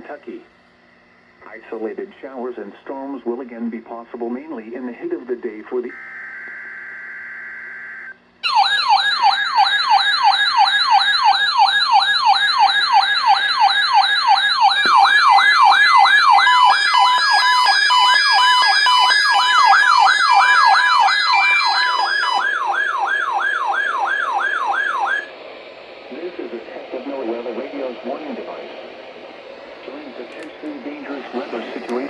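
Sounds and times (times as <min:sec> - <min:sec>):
electronic warbling siren: 0:05.9 - 0:32.0.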